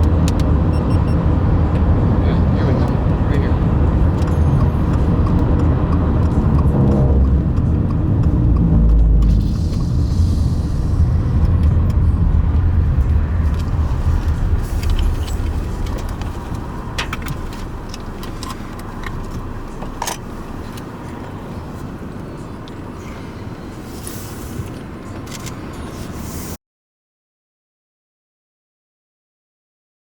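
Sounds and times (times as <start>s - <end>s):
road rumble inside a car: 0.0s - 26.6s.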